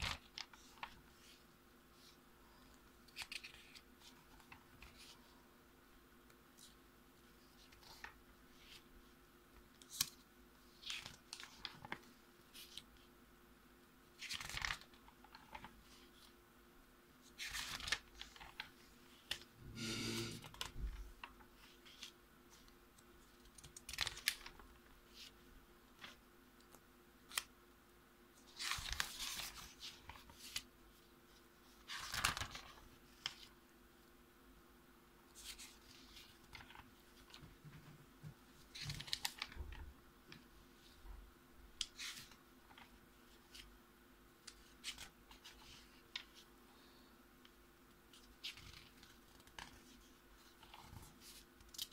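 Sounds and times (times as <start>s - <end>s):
paper pages rustling: 0.0s - 1.4s, 2.0s - 5.3s, 6.5s - 13.1s, 14.1s - 16.4s, 17.2s - 27.5s, 28.4s - 33.6s, 35.3s - 41.0s, 41.8s - 43.8s, 44.4s - 46.5s, 47.4s - 51.9s
faint steady hum: 0.0s - 51.9s.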